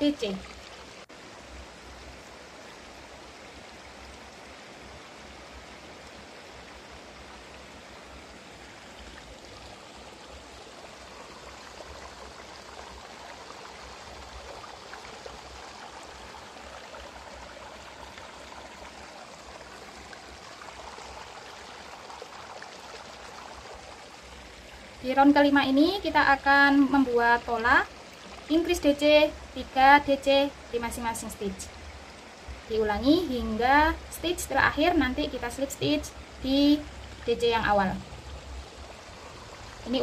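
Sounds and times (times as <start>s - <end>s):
steady background hiss: 0.0s - 40.0s.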